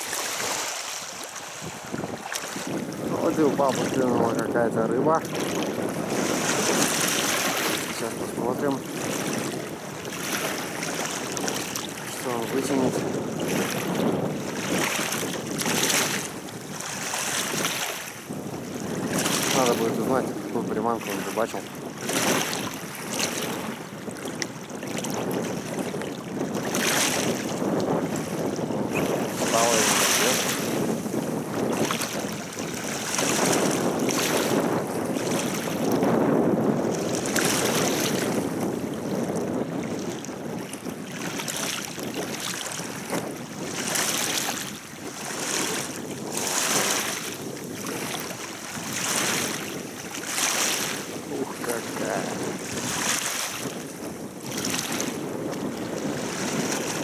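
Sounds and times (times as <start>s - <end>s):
waves washing against shore: 0.0s - 57.0s
wind blowing over microphone: 0.0s - 57.0s.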